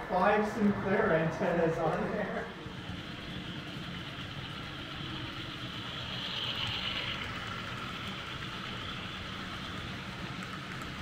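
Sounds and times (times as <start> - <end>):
model train wheels rolling on rail: 0.0 - 11.0.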